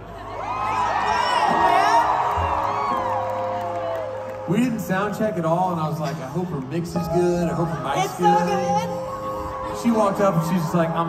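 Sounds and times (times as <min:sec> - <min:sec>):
crowd cheering and whooping: 0:00.0 - 0:06.2, 0:06.8 - 0:11.0.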